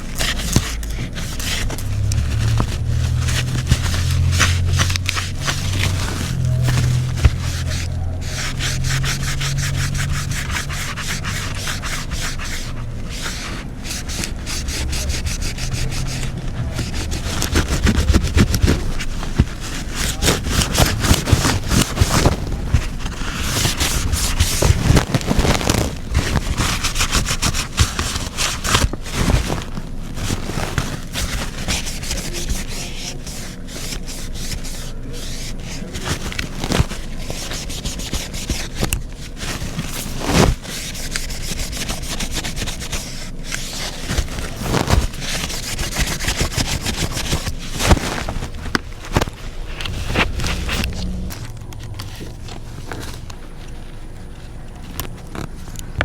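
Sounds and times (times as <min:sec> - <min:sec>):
rapid scrubbing strokes: 0:00.0 - 0:54.8.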